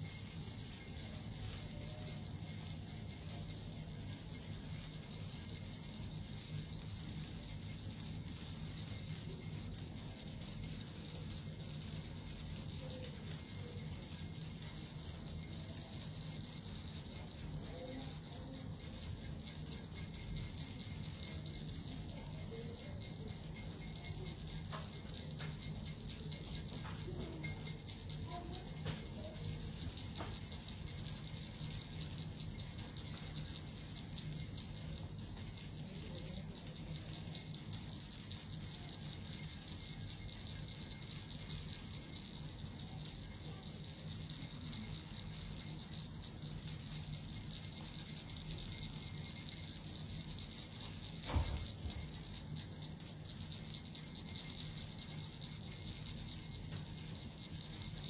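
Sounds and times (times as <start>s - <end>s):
bells and metal rattle jingling: 0.0s - 58.0s.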